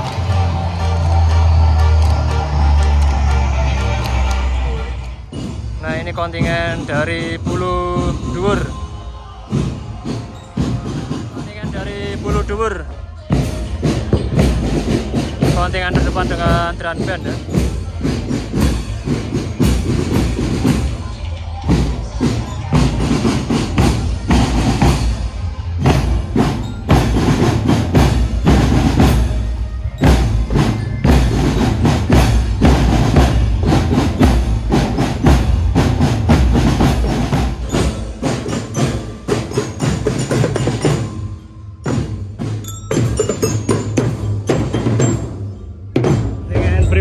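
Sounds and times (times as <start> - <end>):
rapid marching drum strokes: 0.0 - 47.0
bell lyres ringing: 4.6 - 47.0.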